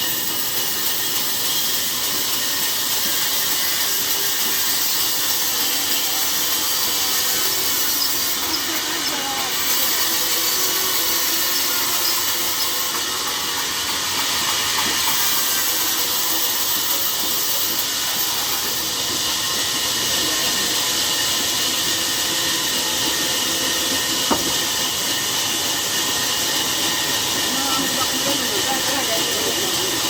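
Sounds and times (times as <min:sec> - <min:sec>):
sawmill saw cutting timber: 0:00.0 - 0:30.0.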